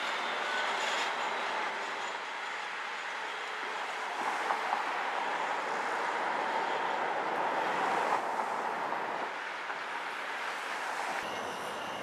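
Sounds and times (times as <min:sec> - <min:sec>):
streetcar rolling on track: 0:00.0 - 0:12.0.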